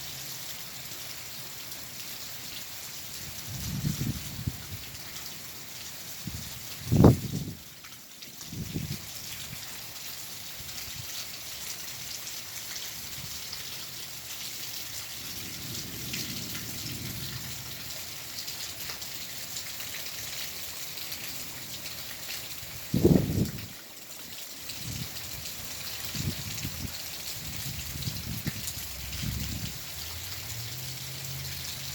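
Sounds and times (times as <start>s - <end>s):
rain falling steadily: 0.0s - 31.9s.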